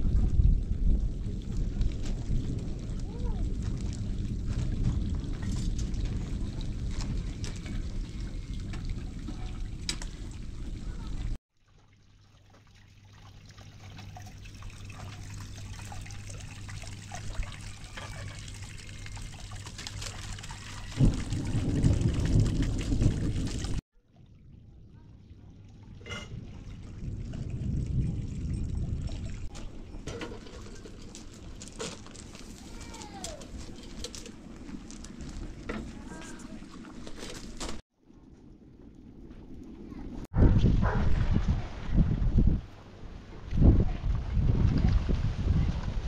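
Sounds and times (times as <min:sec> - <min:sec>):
water trickling and pouring: 0:00.3 - 0:40.3.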